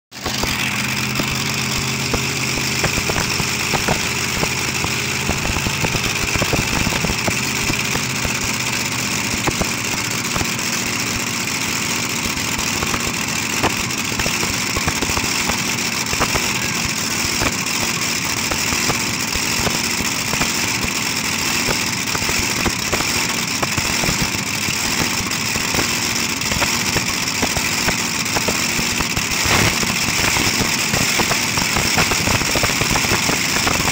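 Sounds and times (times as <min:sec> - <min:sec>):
engine pops: 0:00.1 - 0:33.9
engines idling loudly: 0:00.1 - 0:33.9.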